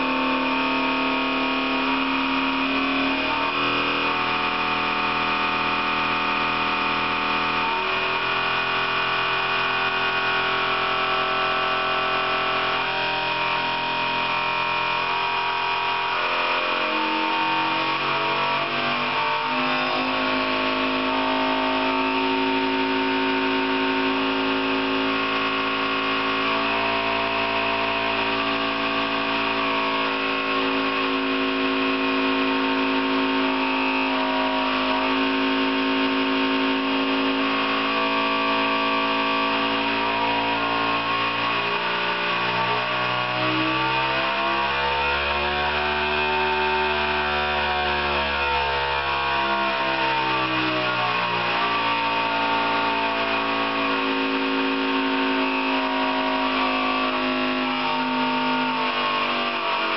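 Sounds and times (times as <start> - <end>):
test machine buzzing: 0.0 - 59.9.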